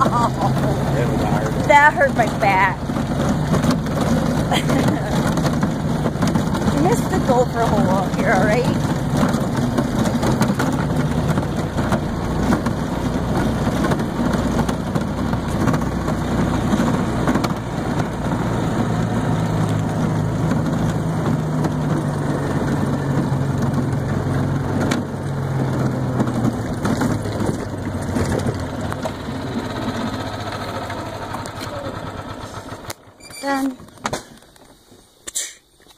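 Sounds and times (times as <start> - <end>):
golf cart motor hum: 0.0 - 35.2.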